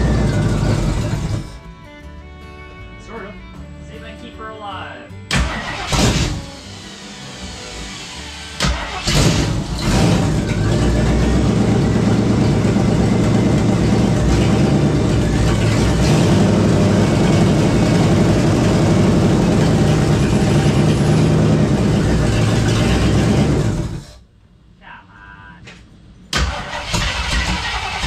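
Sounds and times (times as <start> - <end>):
car engine starting and idling: 0.0 - 1.9, 5.3 - 24.2, 26.3 - 28.0.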